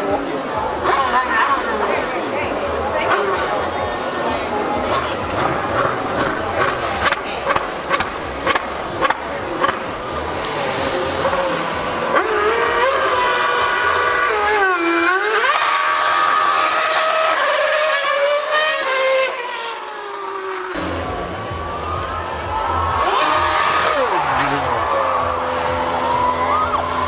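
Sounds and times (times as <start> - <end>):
racing car engine at high revs: 0.0 - 27.0.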